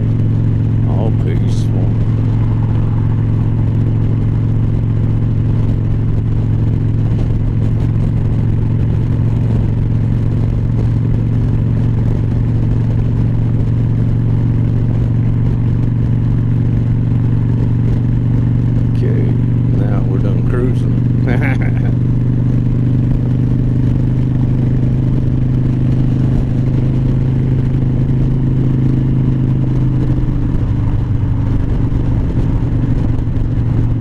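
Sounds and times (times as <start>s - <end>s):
motorcycle engine cruising: 0.0s - 34.0s.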